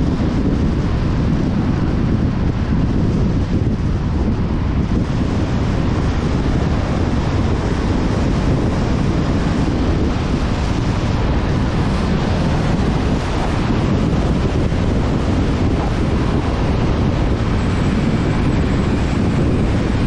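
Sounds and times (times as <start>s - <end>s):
wind noise on microphone: 0.0s - 20.0s.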